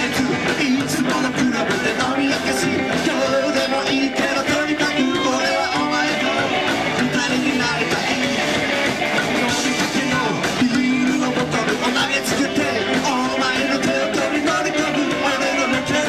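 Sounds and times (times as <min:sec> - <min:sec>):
man singing lead: 0:00.0 - 0:16.0
rockabilly band playing: 0:00.0 - 0:16.0.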